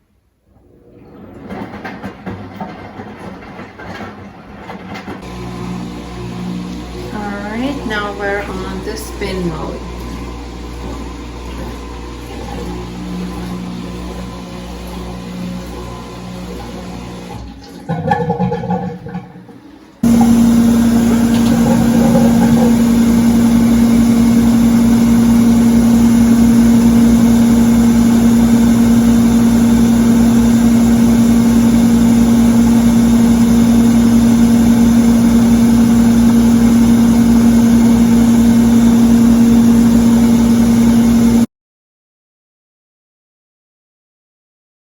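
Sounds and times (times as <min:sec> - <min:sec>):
washing machine spinning hum: 0:00.4 - 0:41.5.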